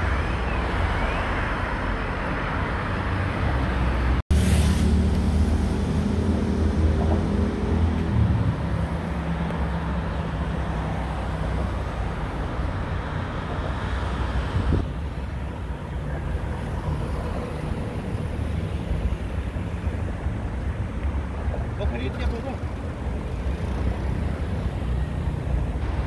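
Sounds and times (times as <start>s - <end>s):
car engines rumbling: 0.0s - 26.0s.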